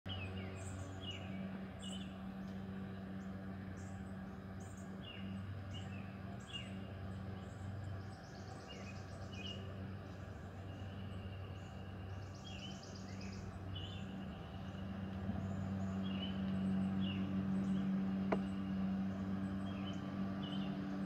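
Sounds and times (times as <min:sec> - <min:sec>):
birds chirping: 0:00.1 - 0:21.0
low hum: 0:00.1 - 0:21.0.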